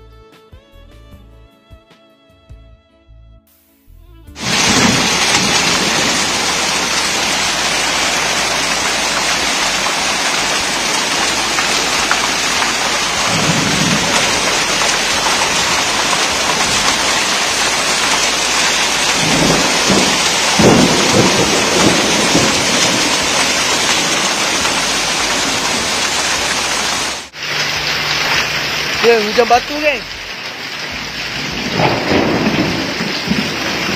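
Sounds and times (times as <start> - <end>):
rain and hail on metal roof: 4.4 - 33.9.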